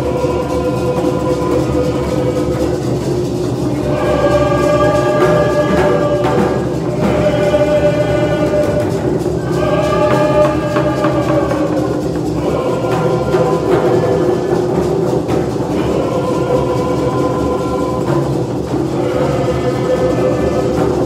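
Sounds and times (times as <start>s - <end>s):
group singing long notes: 0.0s - 21.0s
hand drums beating: 0.0s - 21.0s.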